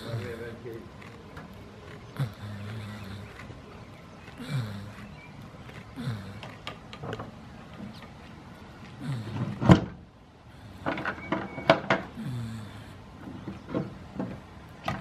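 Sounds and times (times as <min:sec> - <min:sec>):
goat chewing with crunching clicks: 0:00.0 - 0:15.0.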